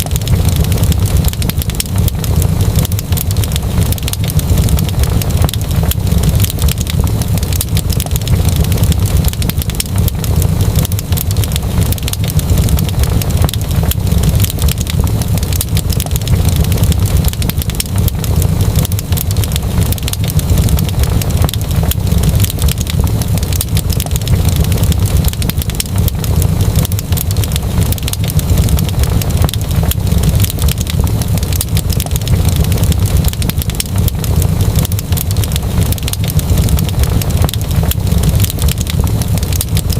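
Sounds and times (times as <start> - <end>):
fireplace fire crackling: 0.0 - 39.9
steady low rumble: 0.0 - 39.9.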